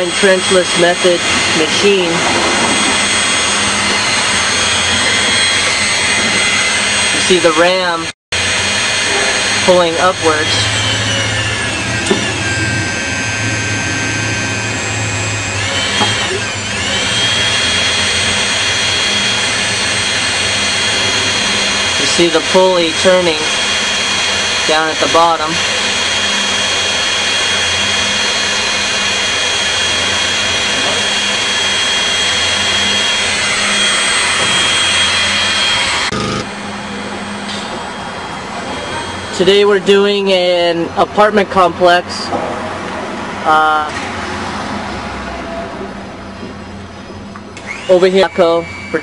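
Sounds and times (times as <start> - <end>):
hydraulic machine hum and whine: 0.0 - 49.0.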